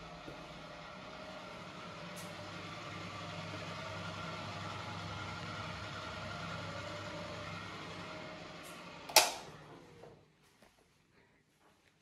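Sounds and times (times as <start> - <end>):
low mechanical hum: 0.0 - 11.7.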